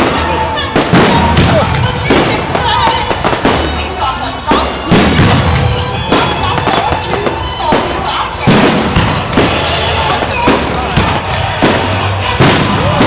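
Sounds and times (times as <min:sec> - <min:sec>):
fireworks bangs: 0:00.0 - 0:13.0
fireworks crackle: 0:00.0 - 0:13.0
music playing: 0:00.0 - 0:13.0.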